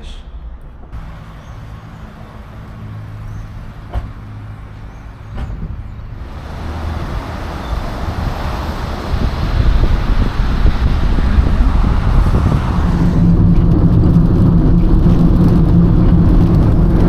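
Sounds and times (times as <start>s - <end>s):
car engine humming: 0.0s - 17.0s
road and wind noise: 0.0s - 17.0s.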